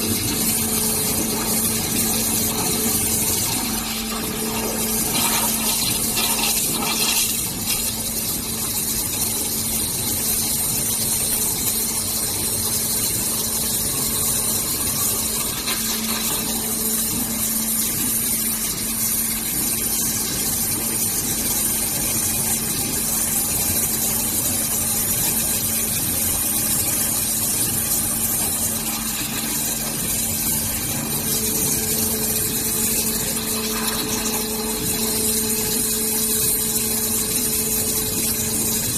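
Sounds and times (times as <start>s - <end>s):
pump hum: 0.0s - 38.9s.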